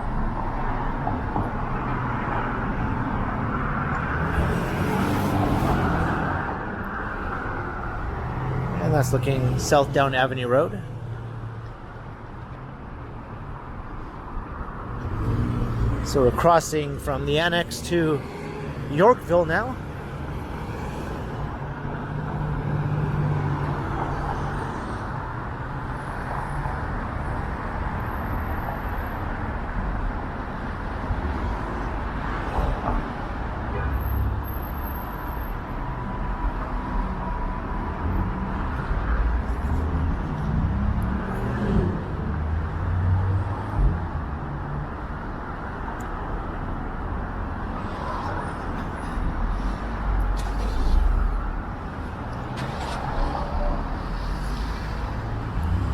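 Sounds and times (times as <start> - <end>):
road traffic passing: 0.0 - 55.9.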